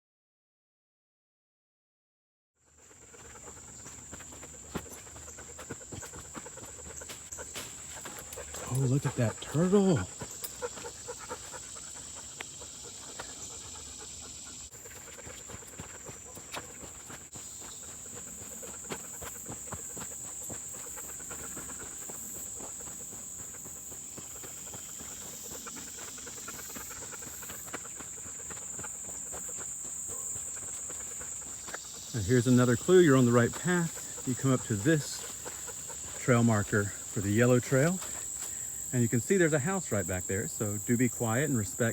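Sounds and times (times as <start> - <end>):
footsteps on muddy leafy trail: 2.7 - 41.9
insect chorus droning: 2.7 - 41.9.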